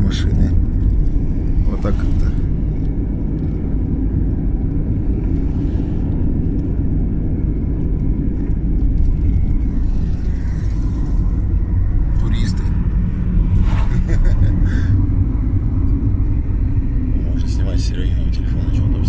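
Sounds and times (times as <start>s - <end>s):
car driving interior rumble: 0.0s - 19.0s.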